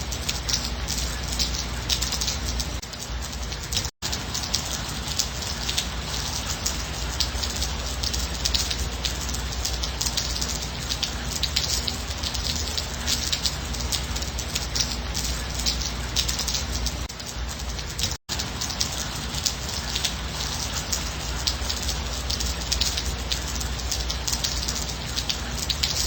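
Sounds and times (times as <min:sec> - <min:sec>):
light rain pattering: 0:00.0 - 0:26.0.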